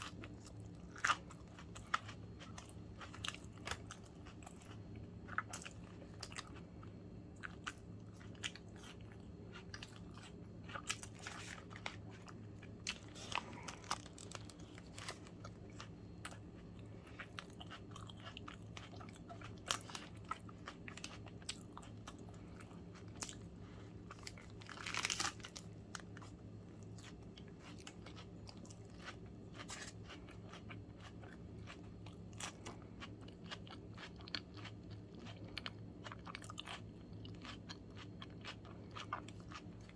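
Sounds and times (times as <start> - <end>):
sandwich crunching: 0.0 - 39.9.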